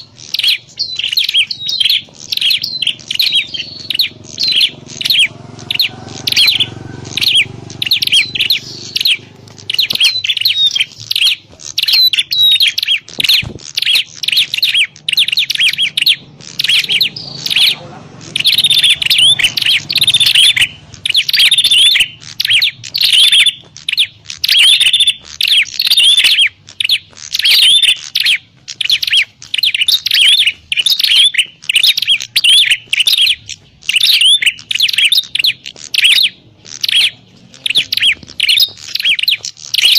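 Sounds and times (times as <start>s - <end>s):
bird sharp high chirps: 0.0s - 39.9s.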